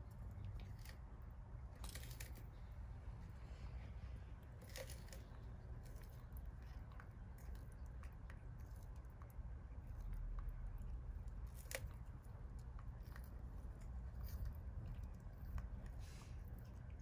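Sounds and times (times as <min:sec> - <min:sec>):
steady low hum: 0:00.0 - 0:17.0
tortoises chewing lettuce: 0:00.0 - 0:17.0.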